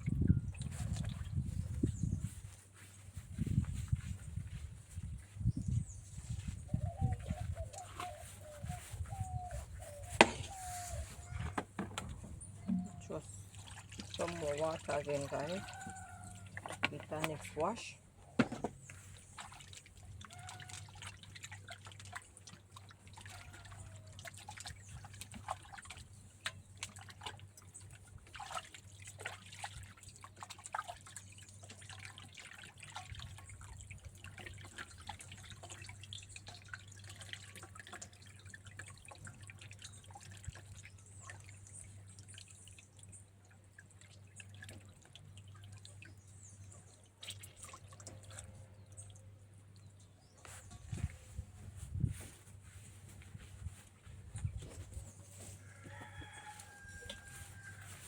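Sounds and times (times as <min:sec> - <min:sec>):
water splashes and drips: 0:00.0 - 0:58.0.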